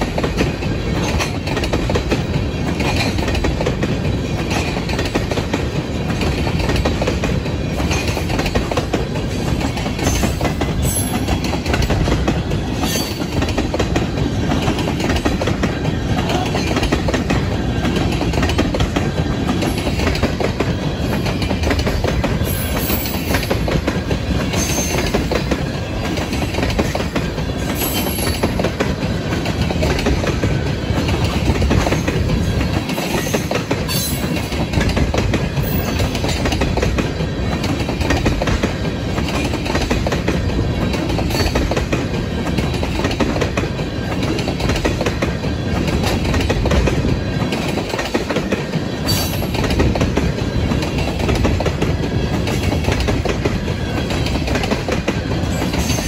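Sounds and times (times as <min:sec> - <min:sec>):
steel wheels rumbling on rails: 0:00.0 - 0:56.0
wheels clicking over rail joints: 0:00.0 - 0:56.0.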